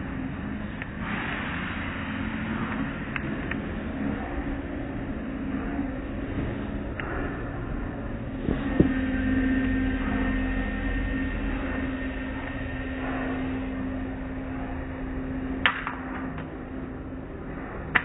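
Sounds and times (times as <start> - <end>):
car wash machinery hum: 0.0 - 18.0.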